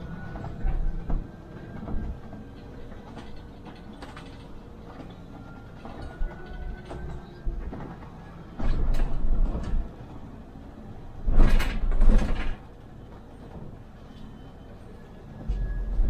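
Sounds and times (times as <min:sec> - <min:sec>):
bus running steadily: 0:00.0 - 0:16.0.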